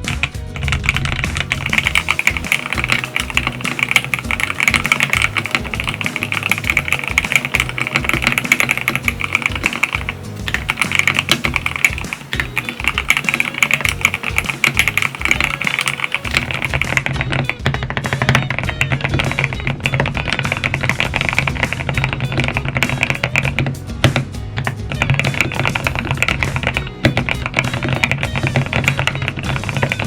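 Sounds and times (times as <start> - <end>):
fast typing on mechanical keyboard: 0.0 - 23.6, 25.0 - 30.0
background music: 0.0 - 30.0.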